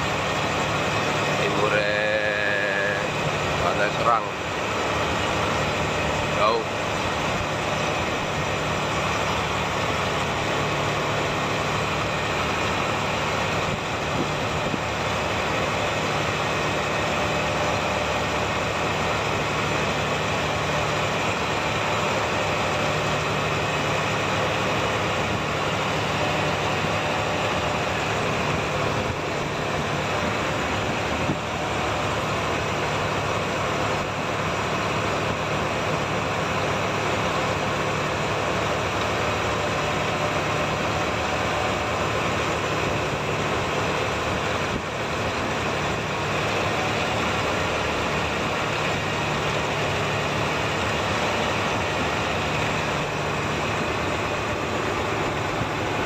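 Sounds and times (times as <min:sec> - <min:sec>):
boat engine running: 0:00.0 - 0:56.0
wind: 0:00.0 - 0:56.0.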